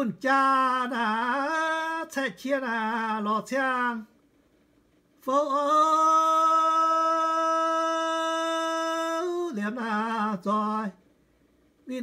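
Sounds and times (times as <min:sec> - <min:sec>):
man singing unaccompanied: 0:00.0 - 0:04.2, 0:05.2 - 0:11.1.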